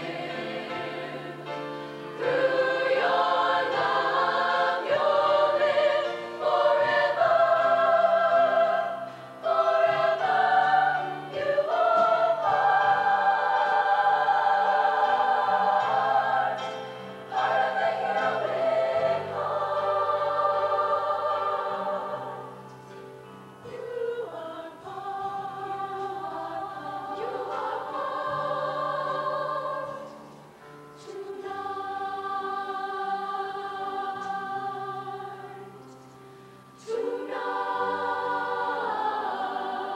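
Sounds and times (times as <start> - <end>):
women's choir singing in harmony: 0.0 - 39.9.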